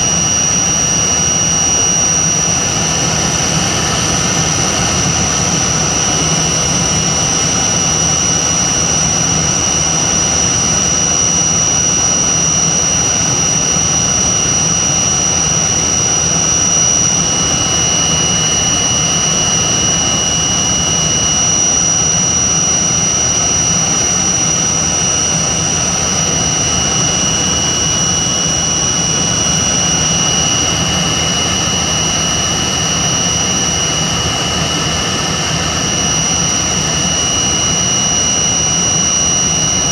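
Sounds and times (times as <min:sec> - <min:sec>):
airliner cabin engine rush: 0:00.0 - 0:39.9
high engine whine: 0:00.0 - 0:39.9.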